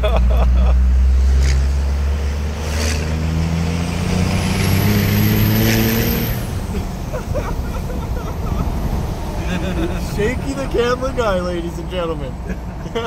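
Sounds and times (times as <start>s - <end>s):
diesel engine accelerating: 0.0s - 13.0s.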